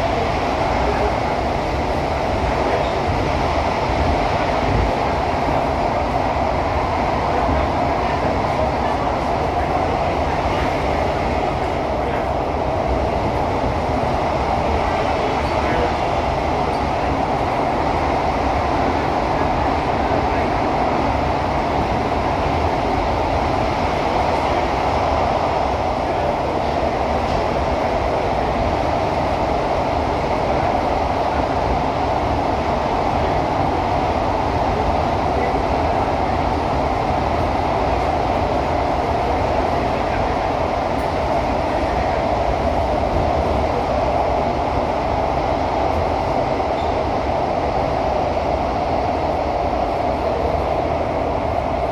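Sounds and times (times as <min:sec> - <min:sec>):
constant hum: 0:00.0 - 0:51.9
train wheels rumbling on track: 0:00.0 - 0:51.9.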